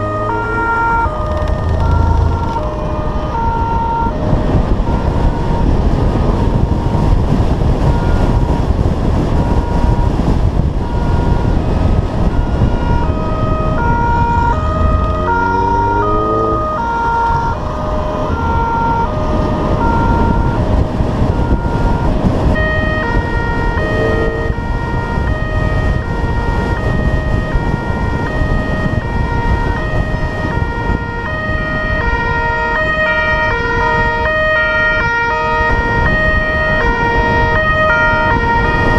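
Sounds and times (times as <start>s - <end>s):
second siren: 0.0s - 7.2s, 7.8s - 38.9s
car engine and road noise: 0.0s - 38.9s
police two-tone siren: 0.0s - 38.9s.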